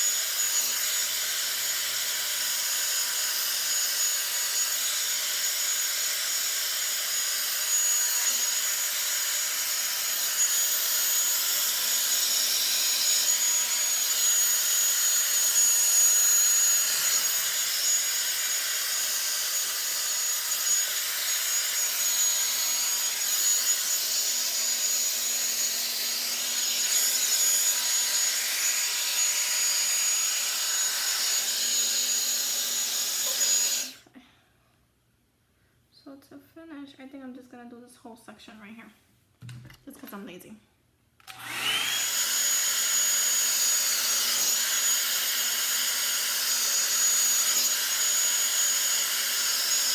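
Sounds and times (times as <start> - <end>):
hair dryer running: 0.0 - 34.0, 41.2 - 49.9.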